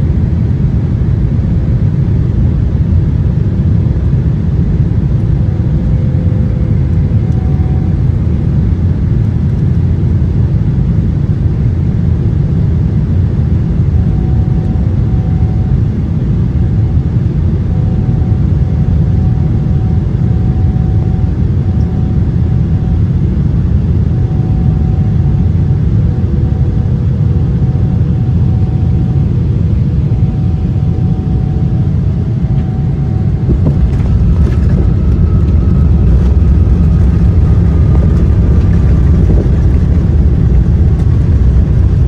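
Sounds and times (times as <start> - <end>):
airliner cabin engine rumble: 0.0 - 42.0
faint humming tone: 0.0 - 42.0.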